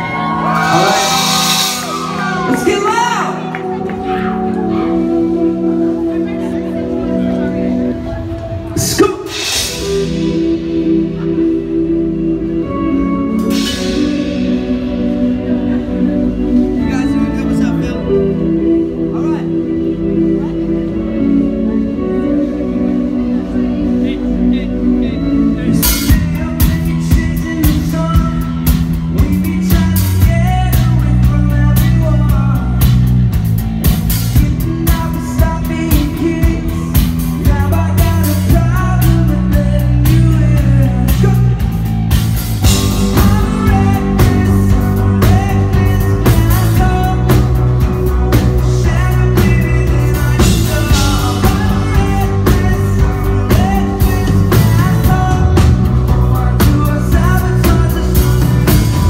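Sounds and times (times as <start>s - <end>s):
person singing: 0.0s - 59.0s
rock band playing: 0.0s - 59.0s.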